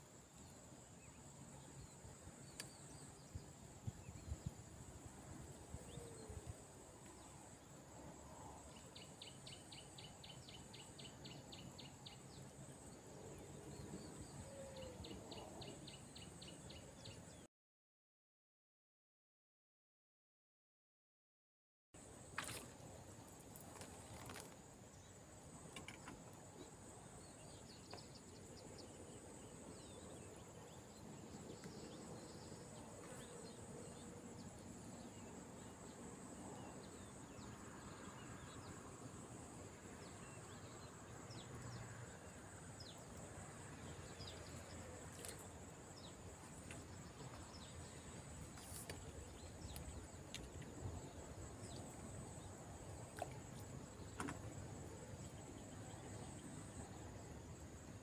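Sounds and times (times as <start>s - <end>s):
insects droning: 0.0s - 17.4s, 22.0s - 58.0s
outdoor background noise: 0.0s - 17.5s, 22.0s - 58.0s.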